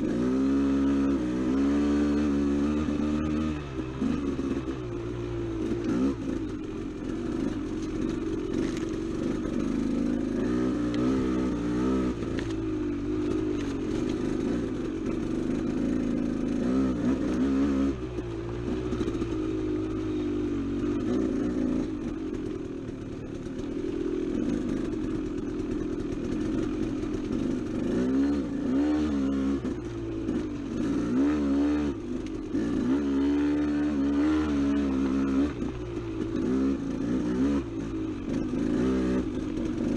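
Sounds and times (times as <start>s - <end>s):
motorcycle engine revving: 0.0s - 39.9s
motorcycle rattling: 0.0s - 39.9s.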